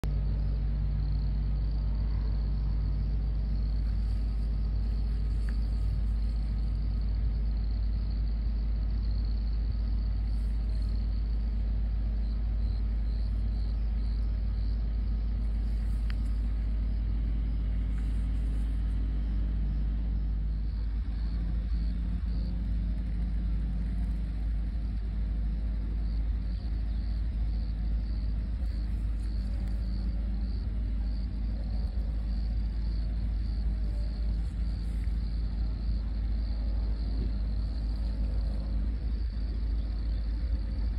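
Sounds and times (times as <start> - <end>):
steady low rumble: 0.0 - 40.9
insects chirping: 0.1 - 40.9.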